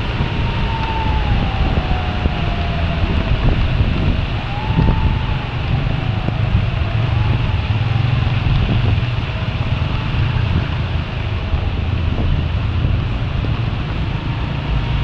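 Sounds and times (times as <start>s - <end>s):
hiss of wind and rain: 0.0s - 15.0s
motorcycle engine hum: 0.0s - 15.0s.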